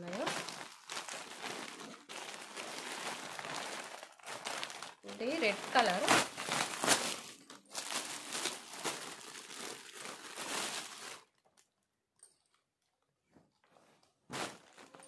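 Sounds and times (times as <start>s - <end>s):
plastic bag crinkling: 0.0s - 11.8s, 14.3s - 15.0s.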